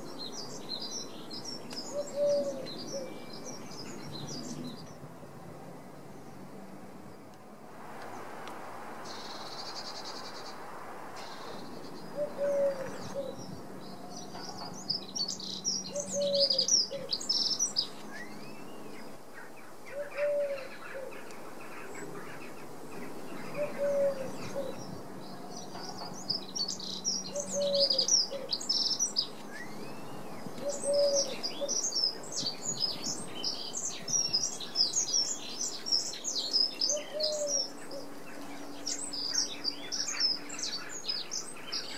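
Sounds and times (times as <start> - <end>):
songbirds chirping and singing: 0.0 - 8.2, 9.0 - 41.9.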